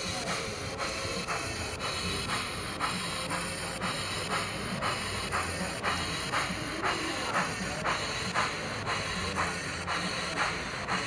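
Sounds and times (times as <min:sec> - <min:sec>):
model train steam chuffs: 0:00.0 - 0:11.0.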